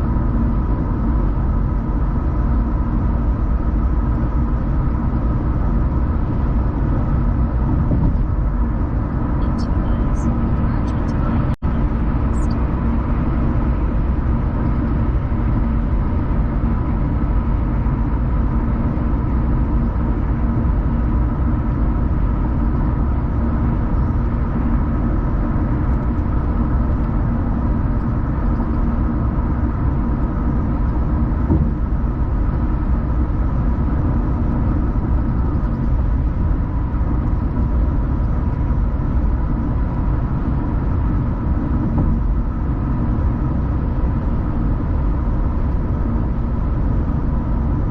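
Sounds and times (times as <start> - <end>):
car tyres and engine rumble: 0.0 - 47.9
faint steady hum: 0.0 - 47.9.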